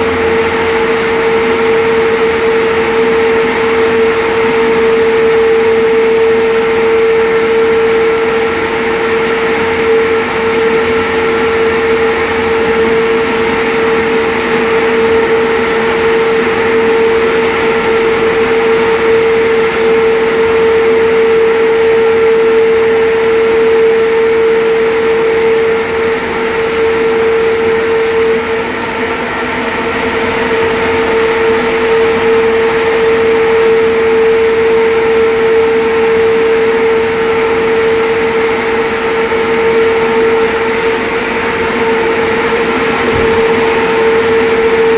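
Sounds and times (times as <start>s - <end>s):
loud machinery hum: 0.0s - 44.9s.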